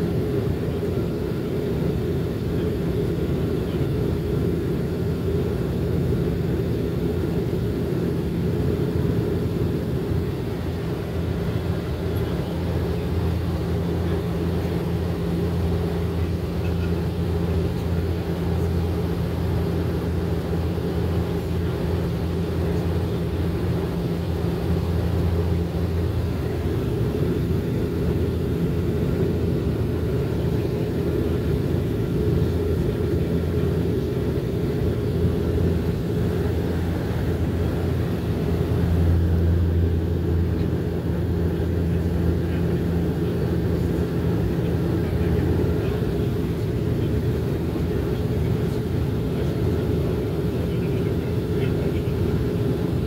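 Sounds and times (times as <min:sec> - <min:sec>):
airliner engine drone in cabin: 0:00.0 - 0:53.0.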